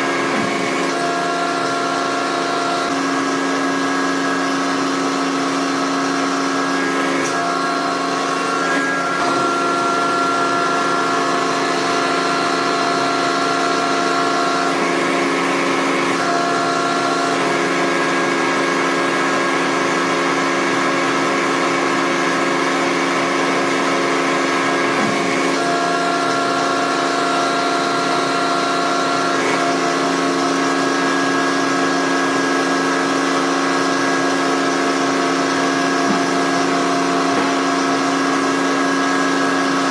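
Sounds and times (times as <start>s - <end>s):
machine humming with whining tones: 0.0s - 39.9s.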